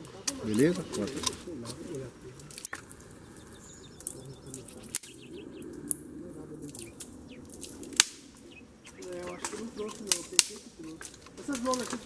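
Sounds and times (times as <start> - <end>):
dry twigs snapping: 0.0 - 12.0
small birds chirping: 0.0 - 12.0.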